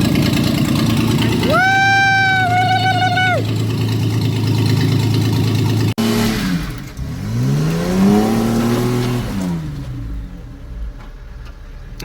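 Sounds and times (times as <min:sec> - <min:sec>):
engine revving: 0:00.0 - 0:12.0
vehicle engine running: 0:00.0 - 0:12.0.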